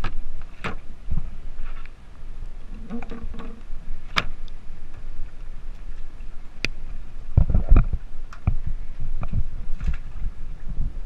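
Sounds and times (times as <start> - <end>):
water splashing: 1.6 - 10.9.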